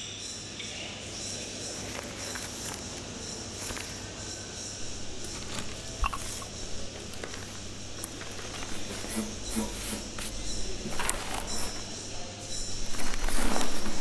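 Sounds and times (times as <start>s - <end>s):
steady low hum: 0.2s - 14.0s
paper rustling: 1.8s - 4.1s, 4.8s - 14.0s.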